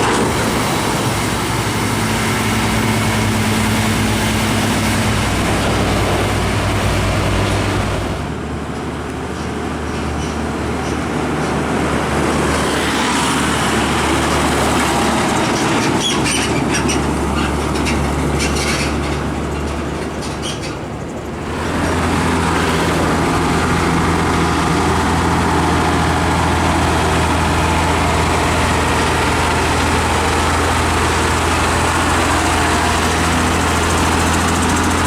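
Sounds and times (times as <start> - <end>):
truck engines running: 0.0 - 35.0.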